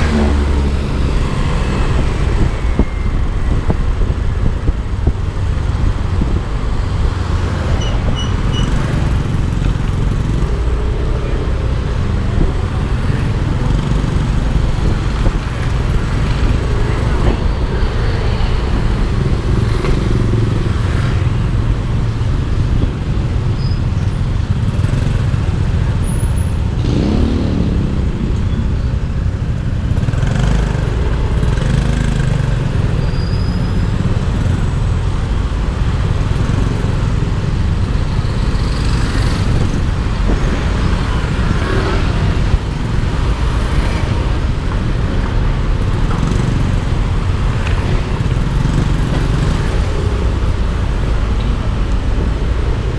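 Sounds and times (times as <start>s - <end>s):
road and traffic noise: 0.0s - 52.9s.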